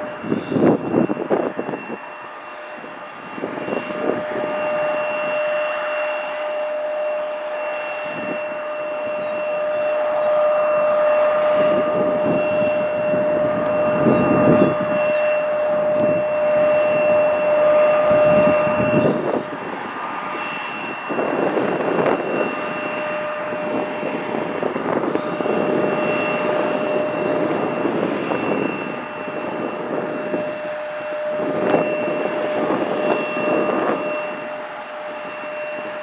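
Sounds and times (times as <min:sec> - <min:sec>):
jet engines whining: 0:00.0 - 0:36.0
rushing rumble: 0:00.0 - 0:36.0.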